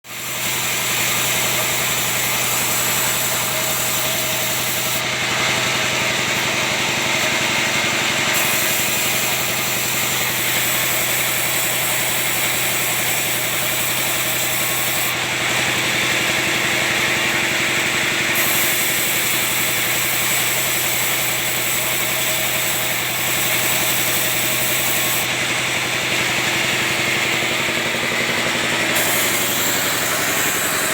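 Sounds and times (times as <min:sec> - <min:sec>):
band saw cutting wood: 0:00.0 - 0:30.9.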